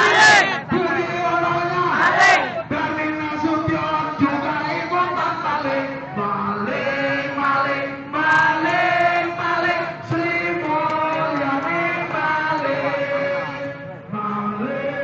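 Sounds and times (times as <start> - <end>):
crowd chanting in unison: 0.0 - 3.0, 4.1 - 15.0.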